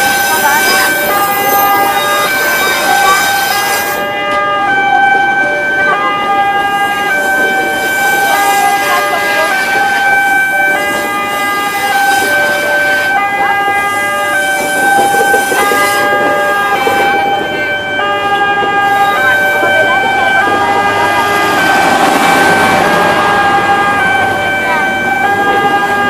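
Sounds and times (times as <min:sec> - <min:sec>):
train rolling past: 0:00.0 - 0:26.0
two-tone crossing alarm: 0:00.0 - 0:26.0.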